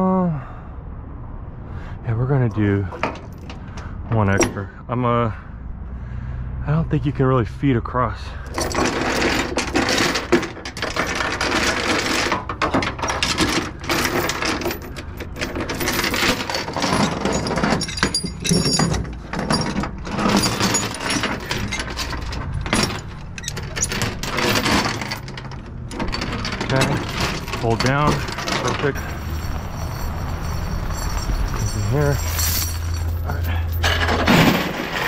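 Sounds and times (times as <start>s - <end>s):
metal chain rattling and clinking: 2.9s - 4.6s, 8.4s - 35.0s.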